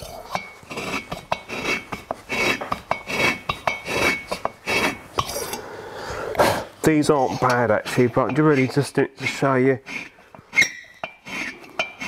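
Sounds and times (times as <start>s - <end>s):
cutter scraping metal: 0.0s - 5.6s, 6.9s - 12.0s
rasping clinking strokes: 0.0s - 5.6s, 7.0s - 12.0s.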